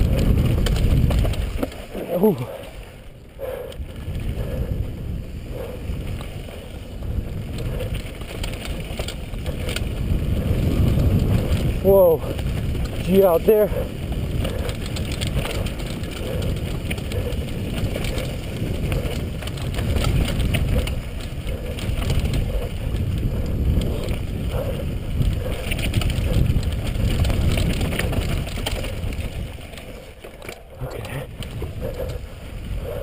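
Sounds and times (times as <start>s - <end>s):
tyres rolling over dirt and rock: 0.0s - 3.2s, 5.9s - 32.8s
bike rattling: 0.0s - 33.0s
wind rush on microphone: 0.0s - 33.0s.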